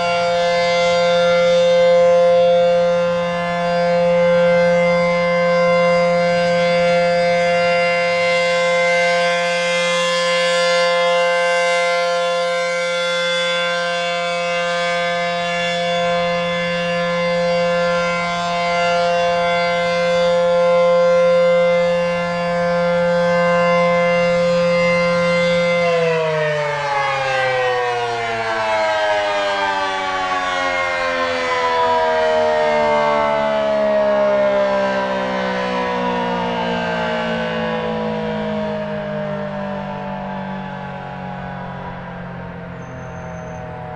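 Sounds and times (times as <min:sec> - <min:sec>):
warning siren wailing: 0:00.0 - 0:43.9.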